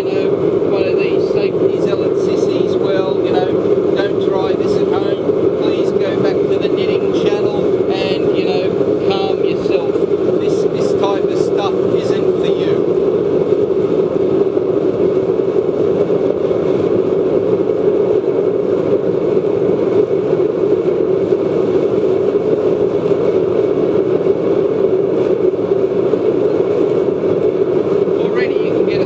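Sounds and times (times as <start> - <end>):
blower whirring: 0.0 - 29.0
oil burner flame roaring: 0.0 - 29.0.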